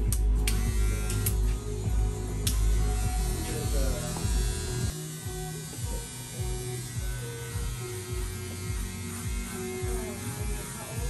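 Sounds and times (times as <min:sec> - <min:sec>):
music with steady low beat: 0:00.0 - 0:11.0.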